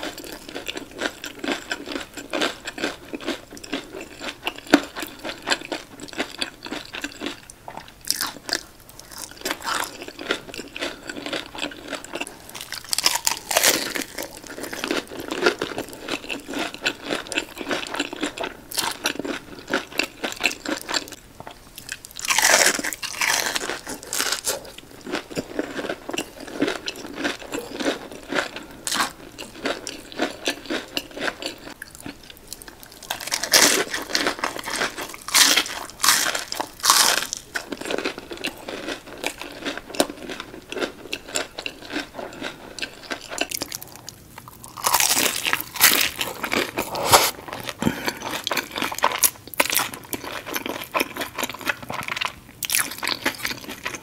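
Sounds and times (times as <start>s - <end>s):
crunchy chewing of fried fish: 0.0s - 54.0s.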